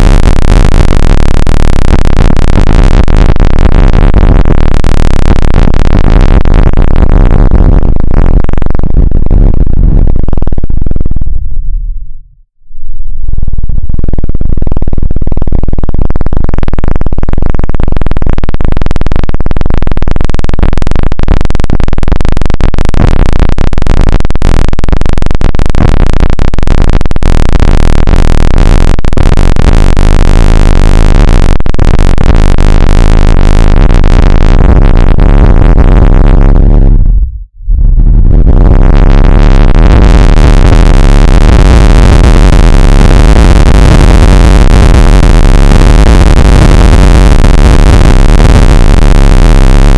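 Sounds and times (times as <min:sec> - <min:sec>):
harsh synthesized electronic buzzing: 0:00.0 - 0:12.1, 0:12.8 - 0:49.9.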